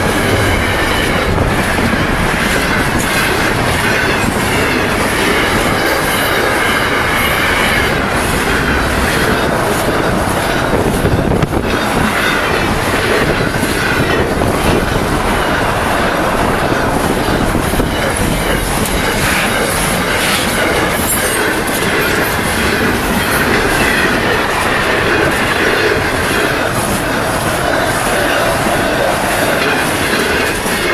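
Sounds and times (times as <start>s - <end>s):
train wheels clacking on rails: 0.0s - 30.9s.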